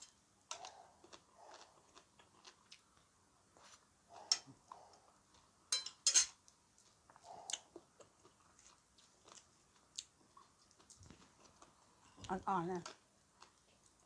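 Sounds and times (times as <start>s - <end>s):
person chewing crunchy food: 0.0s - 5.6s, 6.4s - 12.3s, 12.9s - 14.0s.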